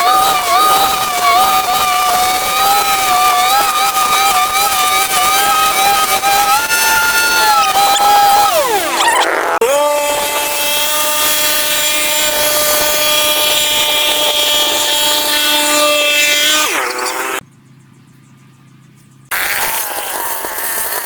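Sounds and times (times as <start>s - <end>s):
power tool motor whining: 0.0s - 17.4s, 19.3s - 21.0s.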